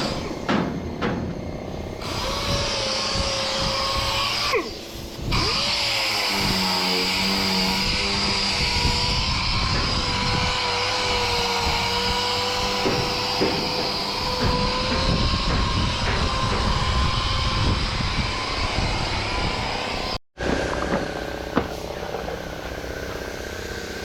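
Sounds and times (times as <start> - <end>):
machine whining and clattering: 0.0 - 7.2, 7.8 - 24.0.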